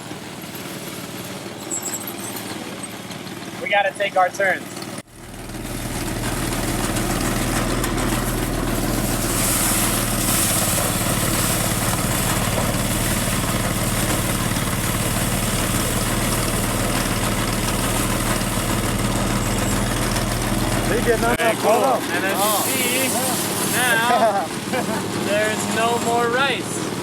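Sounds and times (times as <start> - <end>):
threshing machine running: 0.0 - 27.0.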